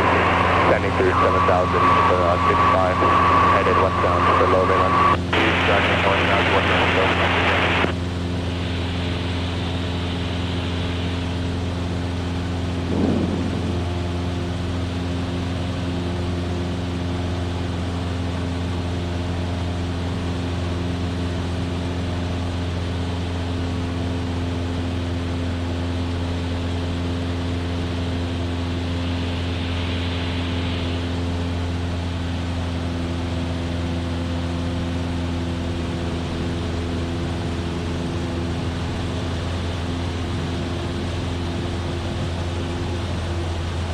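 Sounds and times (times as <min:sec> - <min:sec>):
airplane engine and propeller droning: 0:00.0 - 0:43.9.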